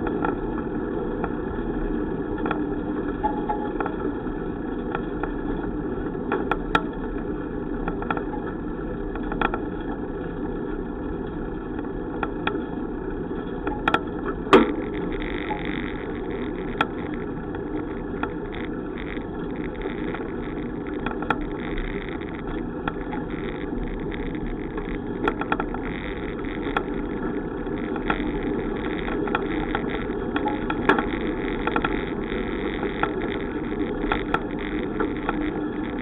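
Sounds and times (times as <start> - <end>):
bicycle riding rumble: 0.0 - 36.0.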